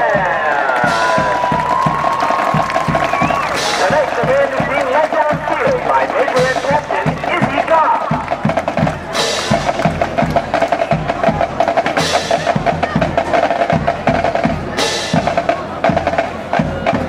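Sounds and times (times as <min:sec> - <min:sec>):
rapid snare drum strokes: 0:00.6 - 0:17.0.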